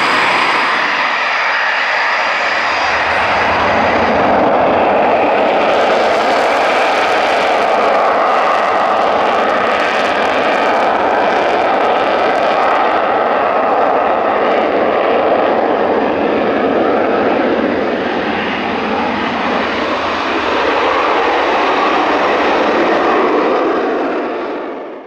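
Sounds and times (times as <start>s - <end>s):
jet engine noise: 0.0s - 25.0s.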